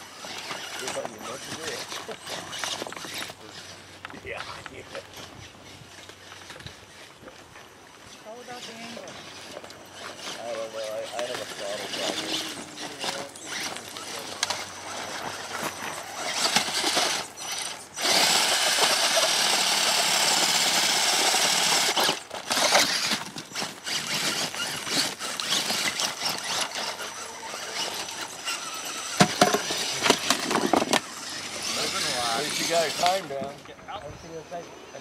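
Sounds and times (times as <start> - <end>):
electric motor and gears whining: 0.0 - 35.0.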